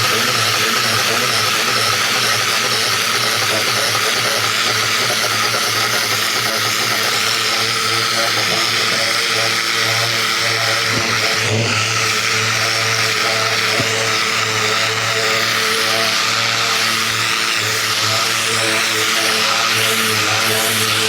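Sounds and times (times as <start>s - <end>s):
pressure washer motor hum: 0.0s - 21.0s.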